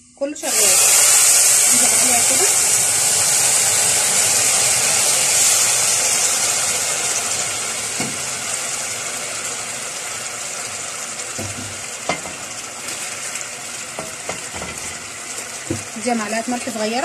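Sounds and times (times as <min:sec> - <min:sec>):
hot liquid sizzling in a pot: 0:00.0 - 0:17.0.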